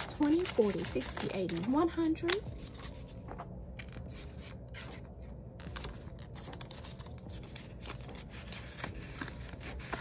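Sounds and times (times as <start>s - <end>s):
paper banknotes rustling: 0.0s - 10.0s.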